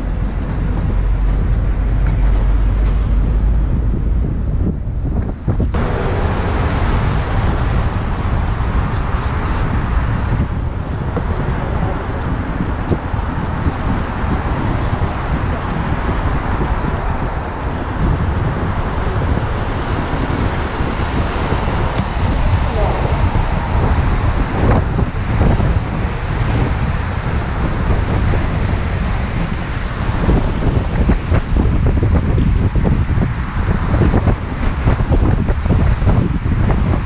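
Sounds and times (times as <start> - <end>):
road traffic: 0.0 - 37.0
wind noise on microphone: 0.0 - 37.0.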